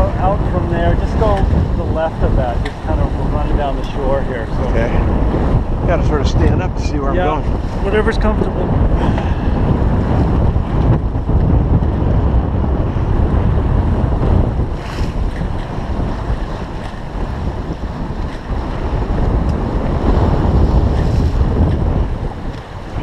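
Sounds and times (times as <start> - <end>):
water splashing along a hull: 0.0 - 23.0
wind buffeting microphone: 0.0 - 23.0.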